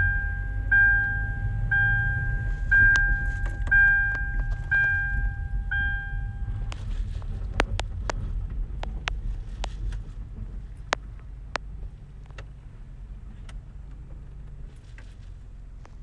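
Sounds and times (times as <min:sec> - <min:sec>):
car rumble from inside cabin: 0:00.0 - 0:16.0.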